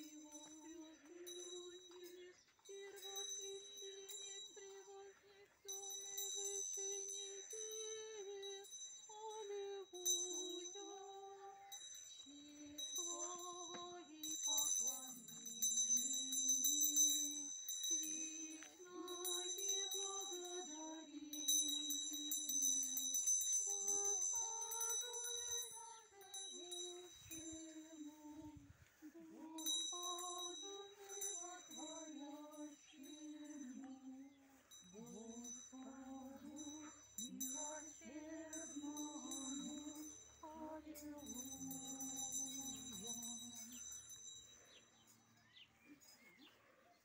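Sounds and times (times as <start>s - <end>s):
women singing a hymn: 0.0s - 44.2s
small bells ringing: 0.0s - 46.7s.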